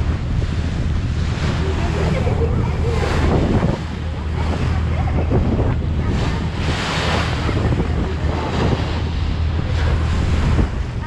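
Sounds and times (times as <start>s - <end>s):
low drone of boat engines: 0.0s - 11.0s
rushing boat wake: 0.0s - 11.0s
wind buffeting microphone: 0.0s - 11.0s.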